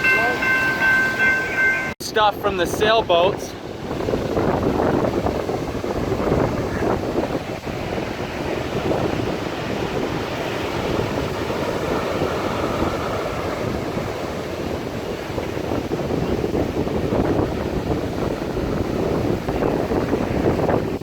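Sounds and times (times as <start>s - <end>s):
storm waves breaking: 0.0s - 21.0s
strong wind buffeting microphone: 2.1s - 21.0s.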